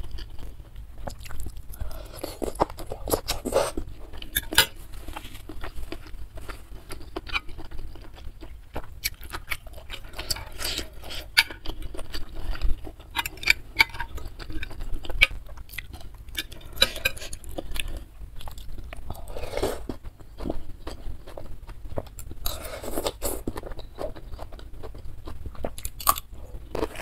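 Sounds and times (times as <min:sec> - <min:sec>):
chewing and wet mouth sounds: 0:00.0 - 0:27.0.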